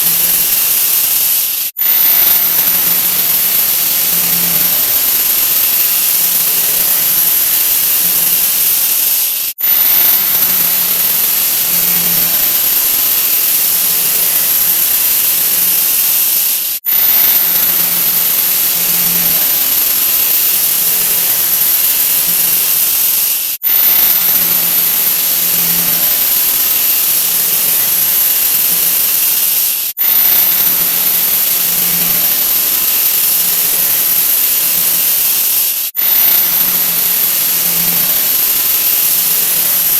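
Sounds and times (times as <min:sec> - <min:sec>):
loud high-pitched hiss: 0:00.0 - 0:39.9.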